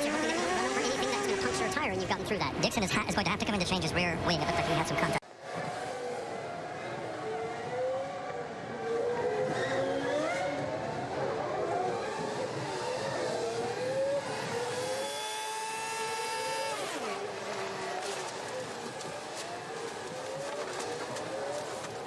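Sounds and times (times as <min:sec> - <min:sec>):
race car engines at full throttle: 0:00.0 - 0:22.0.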